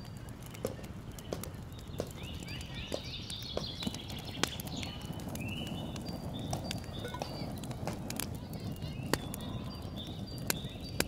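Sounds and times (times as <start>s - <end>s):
birds chirping: 0.0s - 11.0s
sharp pops and clicks: 0.0s - 11.0s
wood fire crackling: 0.0s - 11.0s.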